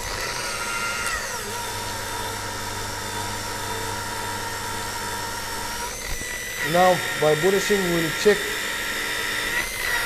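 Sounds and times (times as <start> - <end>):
polishing machine humming: 0.0 - 10.0.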